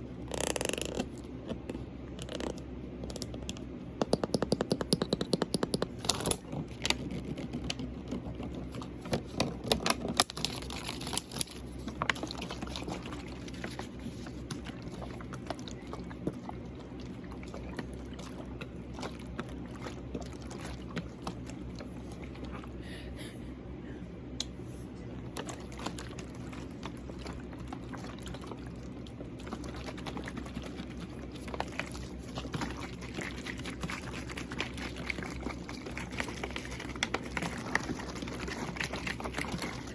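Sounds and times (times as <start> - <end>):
water sloshing in a bottle: 0.0 - 22.9, 25.1 - 39.9
room fan humming: 0.0 - 39.9.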